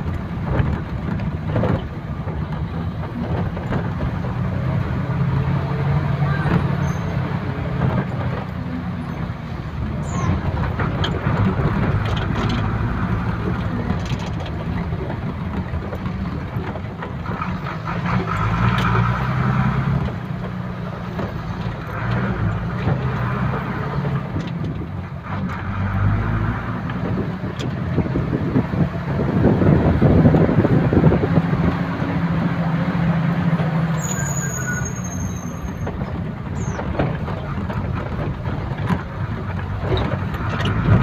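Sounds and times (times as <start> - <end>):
vehicle engine hum and road noise: 0.0 - 41.0.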